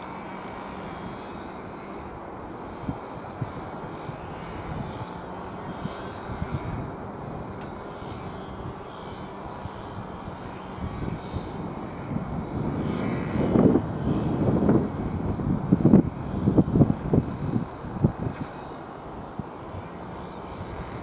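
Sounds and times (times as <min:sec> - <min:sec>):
distant jet airliner rumble: 0:00.0 - 0:21.0.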